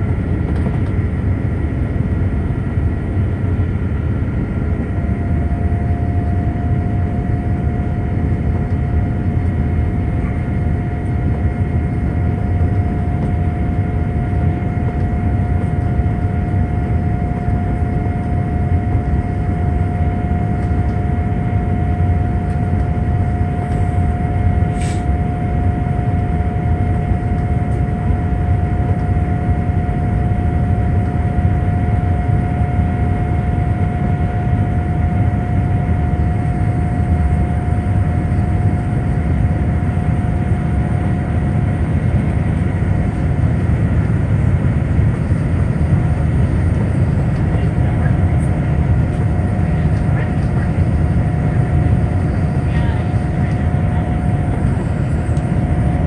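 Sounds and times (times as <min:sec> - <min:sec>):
aircraft engines rumbling: 0:00.0 - 0:56.0
faint steady whine: 0:00.0 - 0:56.0.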